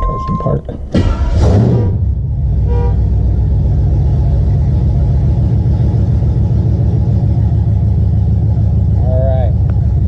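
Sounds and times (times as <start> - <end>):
car engine idling with low rumble: 0.0 - 10.0.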